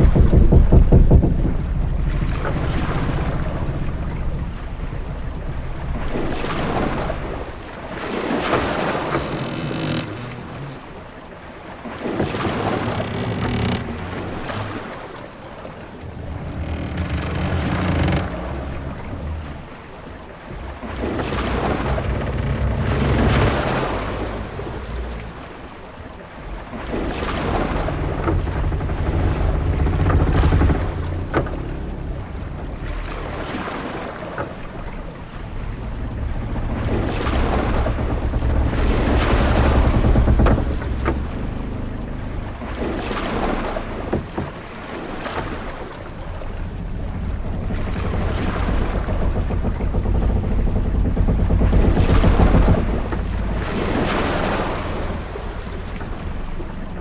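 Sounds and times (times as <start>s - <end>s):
low rumble of wind and water: 0.0s - 57.0s.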